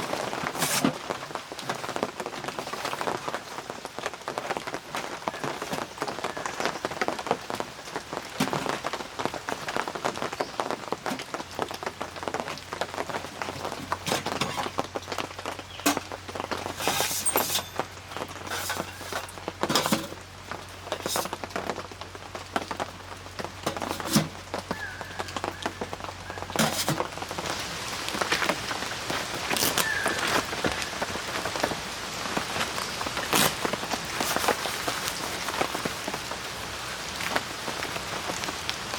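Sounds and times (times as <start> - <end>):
rain spattering on a surface: 0.0 - 38.9.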